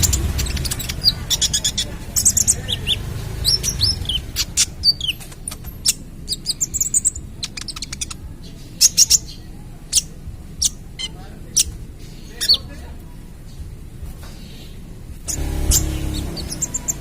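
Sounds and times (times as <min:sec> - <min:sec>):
sunbird singing high chirps: 0:00.0 - 0:12.8, 0:14.2 - 0:17.0.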